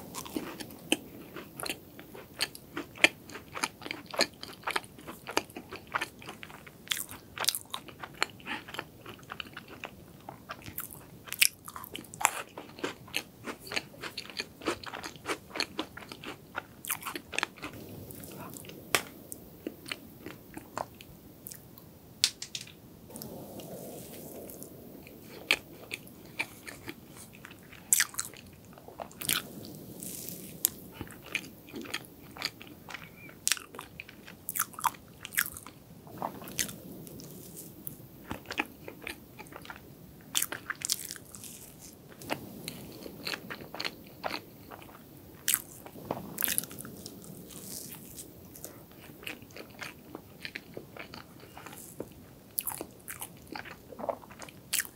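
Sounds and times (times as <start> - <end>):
chewing with wet mouth clicks: 0.1 - 21.6, 23.2 - 37.6, 38.3 - 54.9.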